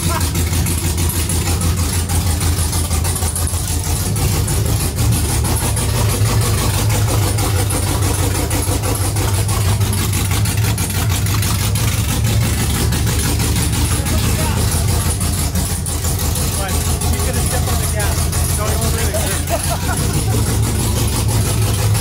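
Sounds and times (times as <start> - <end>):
v eight engine idling: 0.0 - 22.0.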